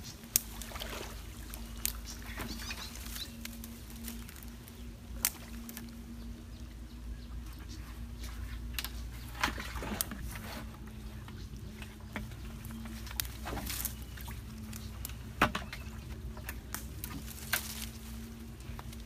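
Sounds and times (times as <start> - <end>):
steady low hum: 0.0 - 19.0
water splashing and sloshing: 0.0 - 19.0.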